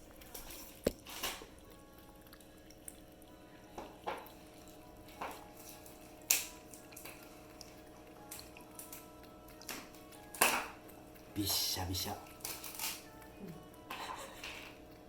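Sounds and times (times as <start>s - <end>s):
cats lapping yogurt: 0.0s - 15.0s.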